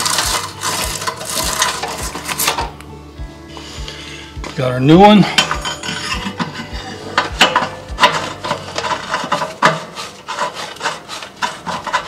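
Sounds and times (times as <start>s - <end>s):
metal threads scraping: 0.0s - 2.8s, 3.6s - 12.0s.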